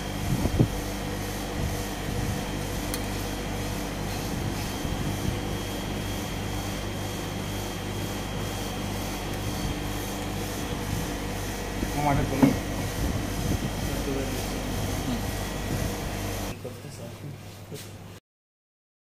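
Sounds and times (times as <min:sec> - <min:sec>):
low machine hum: 0:00.0 - 0:17.8.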